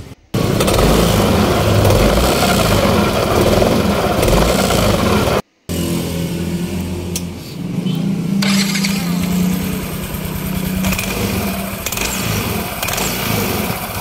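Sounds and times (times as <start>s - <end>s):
scooter engine idling: 0.0s - 7.1s, 7.9s - 14.0s
scooter engine rough noise: 0.0s - 14.0s.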